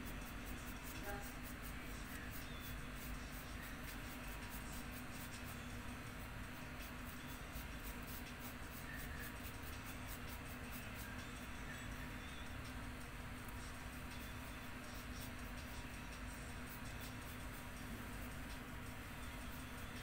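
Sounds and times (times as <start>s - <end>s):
paintbrush scratching on paper: 0.0s - 12.2s, 13.4s - 20.0s
steady low hum: 0.0s - 20.0s.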